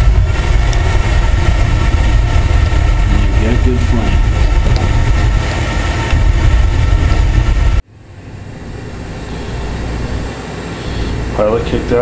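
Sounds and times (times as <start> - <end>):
gas burner rumbling: 0.0 - 12.0.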